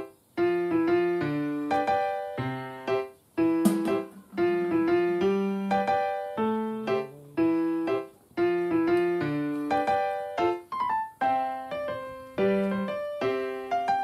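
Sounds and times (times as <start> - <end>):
piano-like keyboard melody: 0.0 - 14.0.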